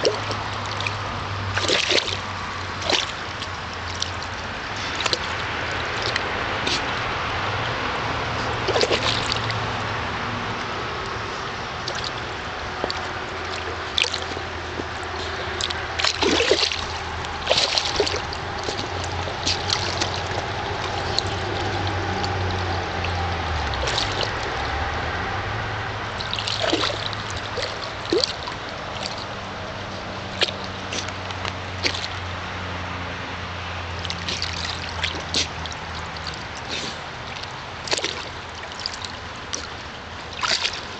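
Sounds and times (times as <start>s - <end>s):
steady low hum: 0.0s - 40.9s
water splashing in a pool: 0.0s - 40.9s.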